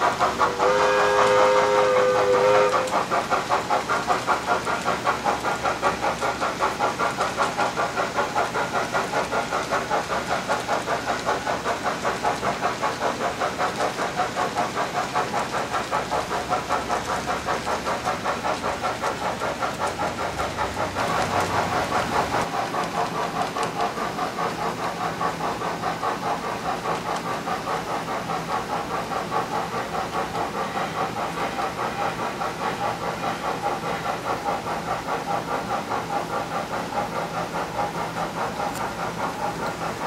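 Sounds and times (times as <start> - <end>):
model steam locomotive chuffing: 0.0 - 40.0.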